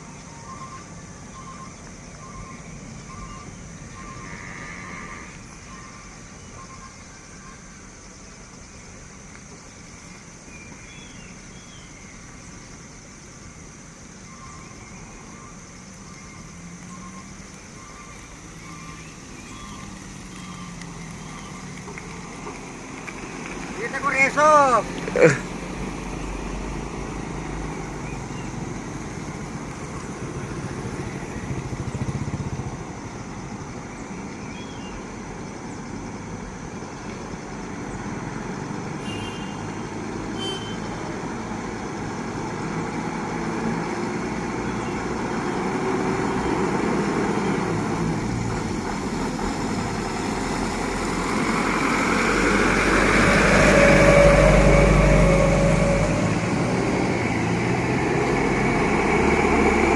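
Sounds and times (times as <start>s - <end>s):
trucks driving past: 0.0s - 10.5s, 15.0s - 59.9s.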